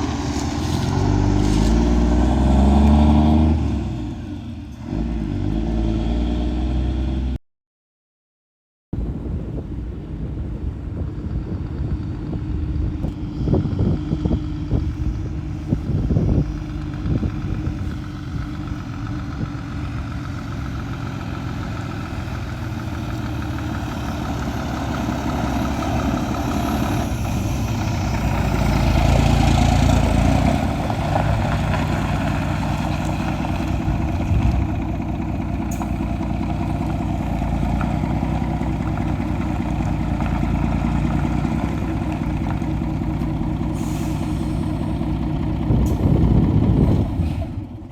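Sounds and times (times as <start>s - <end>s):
truck diesel engine running: 9.1s - 47.9s.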